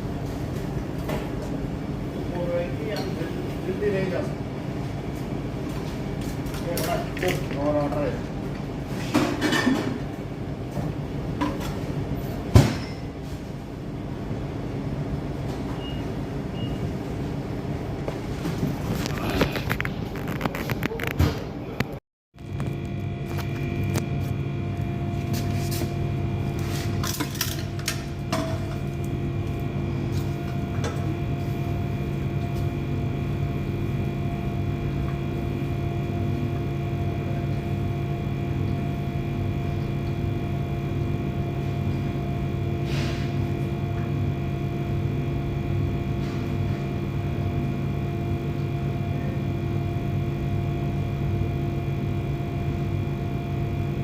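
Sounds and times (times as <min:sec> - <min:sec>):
machine hum with fixed tones: 0:00.0 - 0:54.0.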